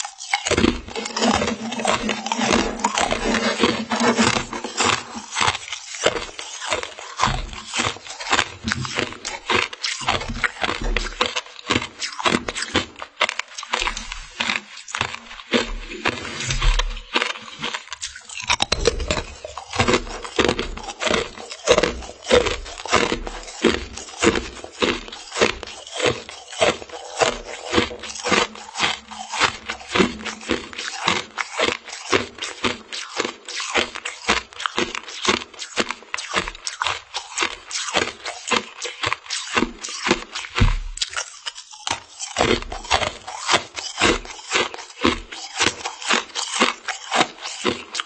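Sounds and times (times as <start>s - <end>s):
crunchy chewing of ice: 0.0s - 48.0s.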